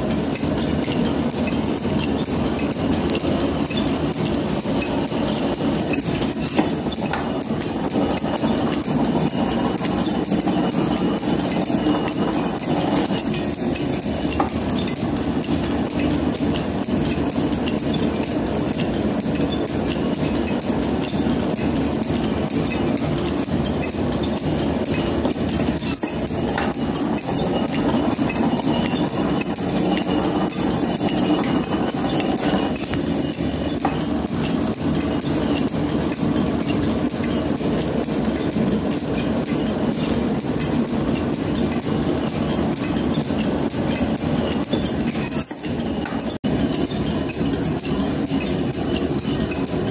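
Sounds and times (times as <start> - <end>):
metal planer running: 0.0 - 49.9.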